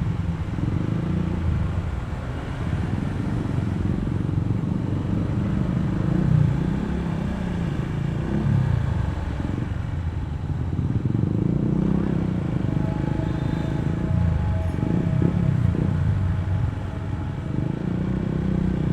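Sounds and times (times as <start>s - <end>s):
road noise: 0.0s - 18.9s.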